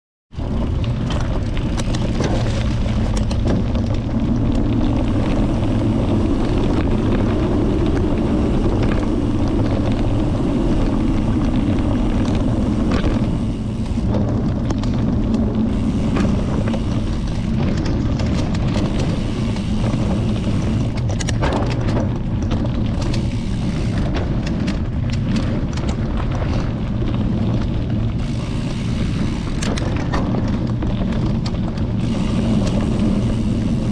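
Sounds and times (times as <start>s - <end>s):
bike clicks and rattles: 0.3s - 33.9s
bike tyres rolling over dirt: 0.3s - 33.9s
wind rumble on microphone: 0.3s - 33.9s.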